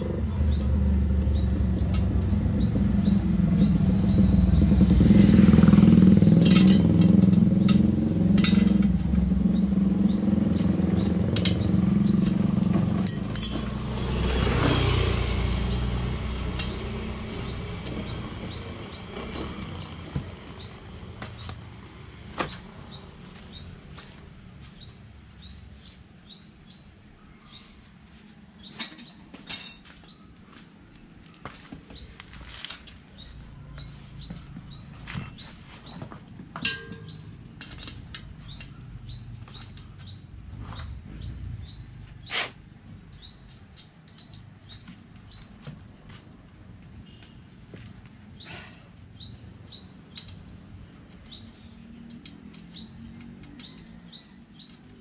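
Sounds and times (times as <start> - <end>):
bird chirping: 0.0 - 6.4, 9.3 - 12.6, 15.2 - 21.8, 22.5 - 30.4, 31.9 - 45.7, 48.3 - 55.0.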